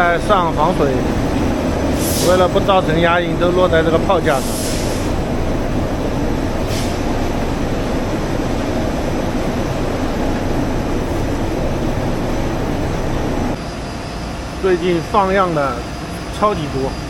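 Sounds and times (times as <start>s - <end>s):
textile machinery running: 0.0s - 17.0s.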